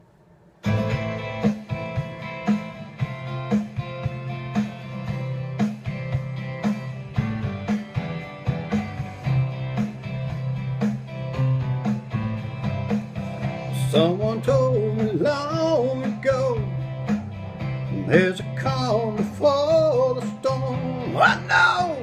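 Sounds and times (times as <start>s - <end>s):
guitar-led music with steady beat: 0.6s - 22.0s.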